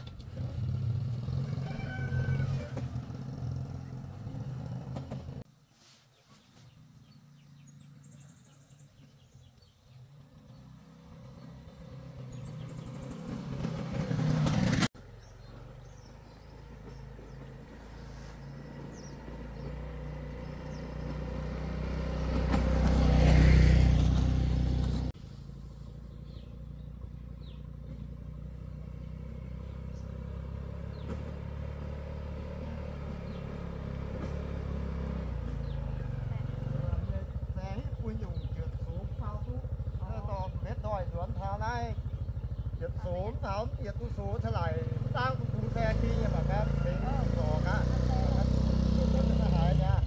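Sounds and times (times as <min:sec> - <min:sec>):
small motorbike engine: 0:00.0 - 0:05.4, 0:09.9 - 0:50.0.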